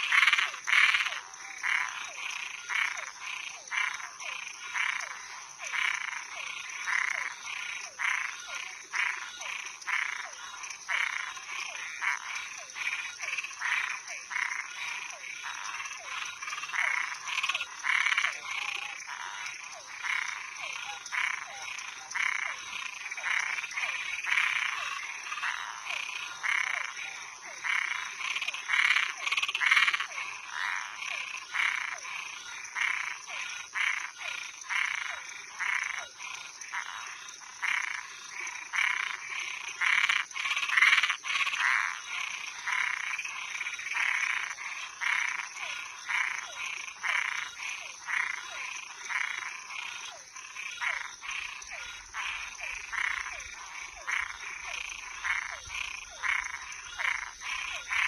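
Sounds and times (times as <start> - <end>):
frogs croaking: 0.0 - 58.0.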